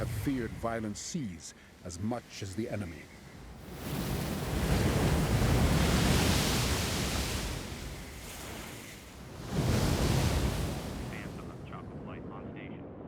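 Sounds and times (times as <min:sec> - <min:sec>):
waves crashing: 0:00.0 - 0:12.6.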